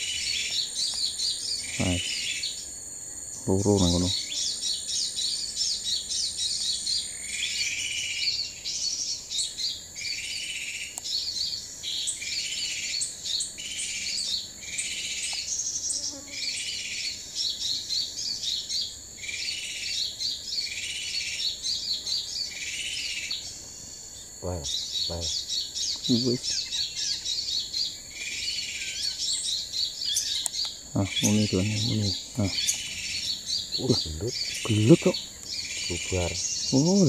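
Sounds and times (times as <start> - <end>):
lower bird call: 0.0 - 2.7, 3.4 - 37.0
small birds chirping: 0.0 - 37.0.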